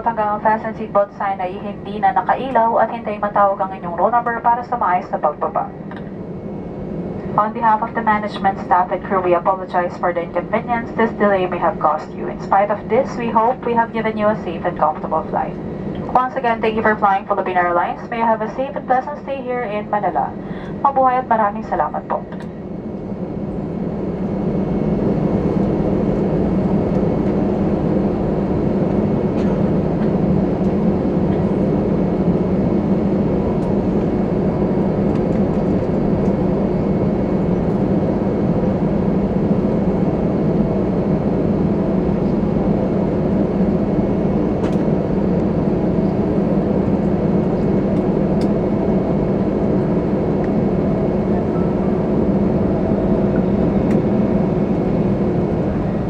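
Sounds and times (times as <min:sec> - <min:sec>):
aircraft cabin drone: 0:00.0 - 0:56.0.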